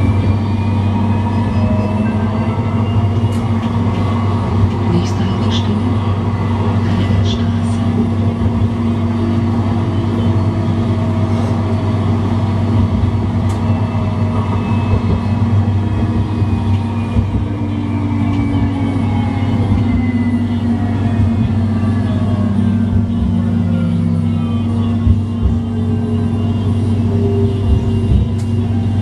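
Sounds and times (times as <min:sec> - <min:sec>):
tram electric hum: 0:00.0 - 0:29.0
traction motor whine: 0:05.5 - 0:29.0.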